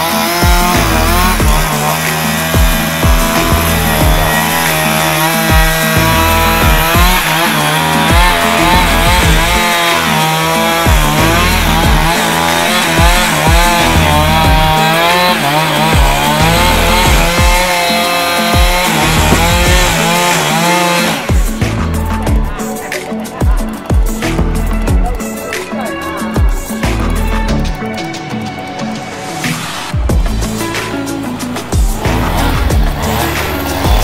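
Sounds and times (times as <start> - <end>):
background music with beat: 0.0 - 34.0.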